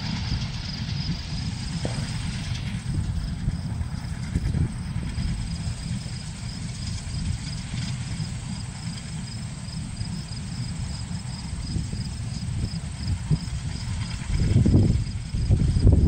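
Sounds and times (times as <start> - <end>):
irregular low rumble: 0.0 - 15.9
insects chirping: 0.2 - 16.0.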